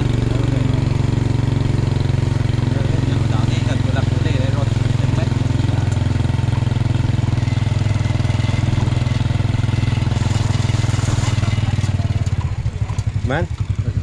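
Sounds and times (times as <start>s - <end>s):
engine chugging: 0.0s - 14.0s.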